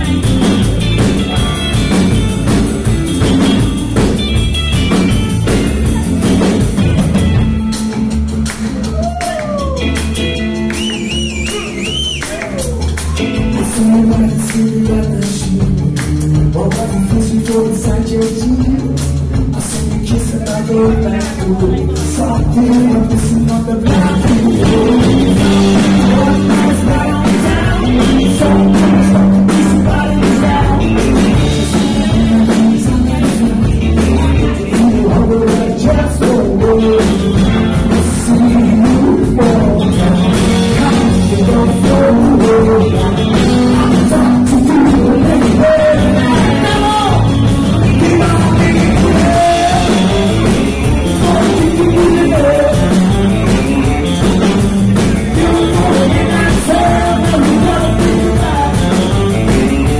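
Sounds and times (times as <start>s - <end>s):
drums: 0.0s - 59.9s
electric bass: 0.0s - 59.9s
electric guitars: 0.0s - 59.9s
man singing lead vocal: 8.9s - 59.9s.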